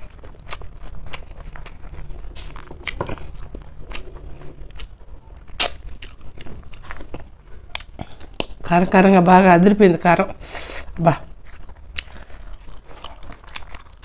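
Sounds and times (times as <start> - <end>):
person chewing with wet smacks: 0.0 - 8.9, 10.8 - 14.0.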